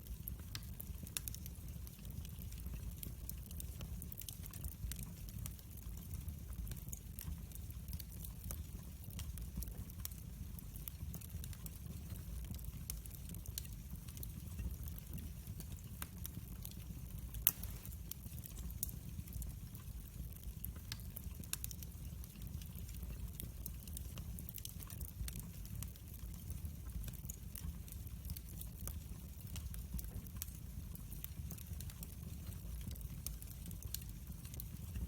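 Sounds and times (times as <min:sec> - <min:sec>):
fireplace fire crackling: 0:00.0 - 0:35.0
fire popping: 0:00.1 - 0:35.0.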